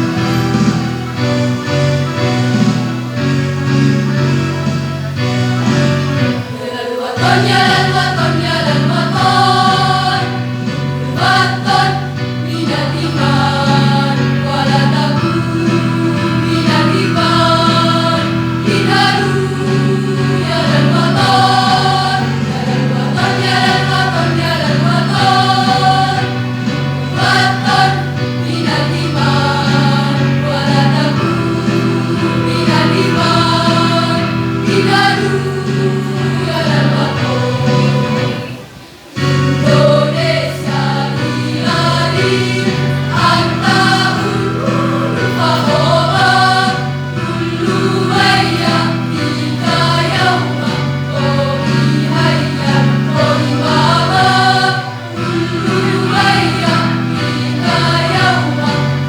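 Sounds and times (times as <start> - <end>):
choir singing in parts: 0.0 - 59.0
sustained instrumental accompaniment: 0.0 - 59.0.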